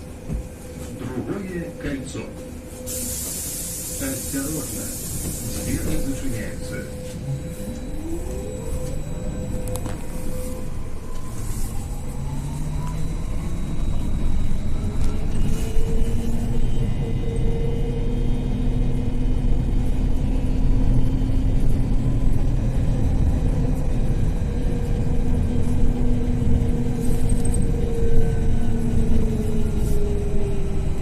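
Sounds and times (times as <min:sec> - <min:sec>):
electric traction drive whine: 0:00.1 - 0:31.0
low road rumble: 0:05.1 - 0:31.0.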